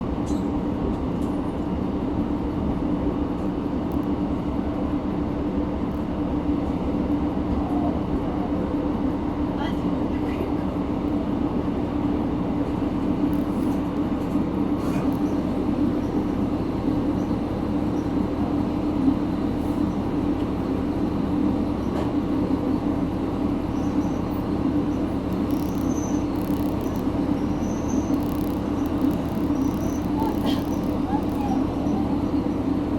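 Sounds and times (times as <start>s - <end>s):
railcar hum from inside: 0.0s - 32.9s.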